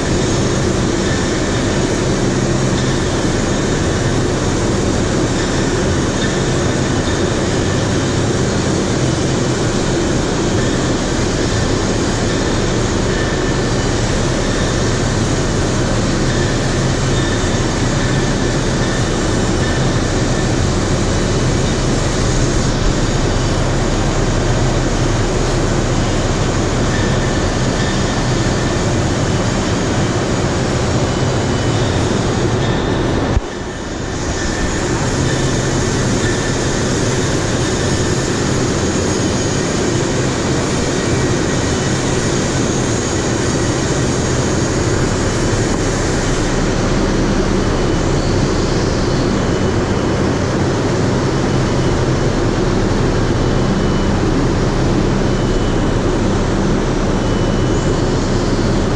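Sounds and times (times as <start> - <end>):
low hum: 0.0 - 58.9
overhead crane machinery noise: 0.0 - 58.9.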